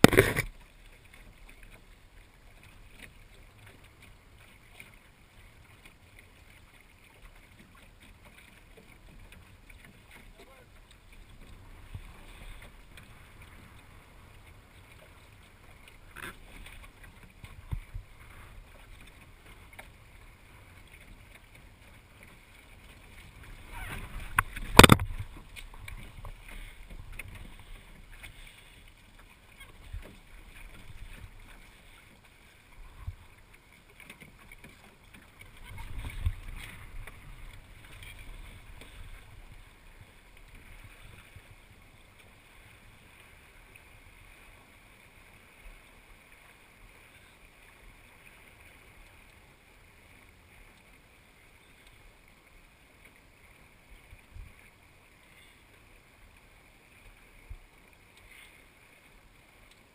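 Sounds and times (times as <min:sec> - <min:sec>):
water washing along hull: 0:00.0 - 0:59.9.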